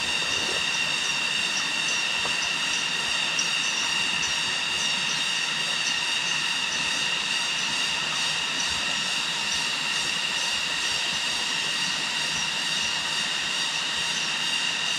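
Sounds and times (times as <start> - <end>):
high-pitched droning buzz: 0.0 - 14.9.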